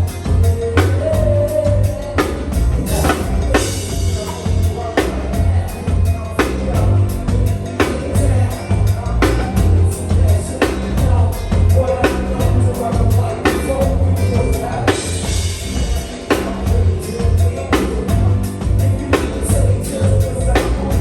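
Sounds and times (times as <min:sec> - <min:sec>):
drum kit: 0:00.0 - 0:21.0
heavy bass: 0:00.0 - 0:21.0
person singing: 0:00.0 - 0:21.0.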